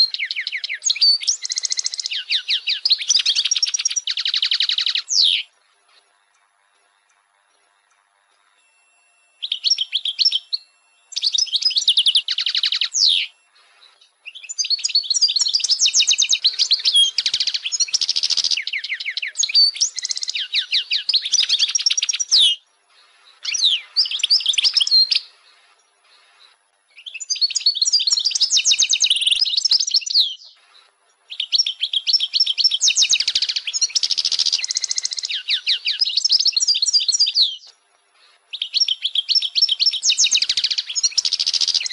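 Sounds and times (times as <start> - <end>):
goldfinch twittering song: 0.0 - 30.6, 31.2 - 37.7, 38.3 - 41.9.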